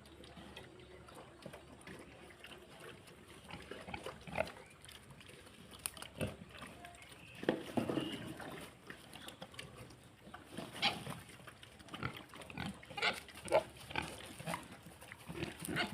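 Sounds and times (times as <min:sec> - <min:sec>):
pigs grunting: 0:00.1 - 0:06.8, 0:07.8 - 0:15.9.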